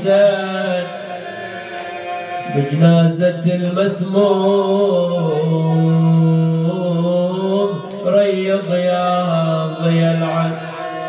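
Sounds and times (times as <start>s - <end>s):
man chanting into a microphone: 0.0s - 11.0s.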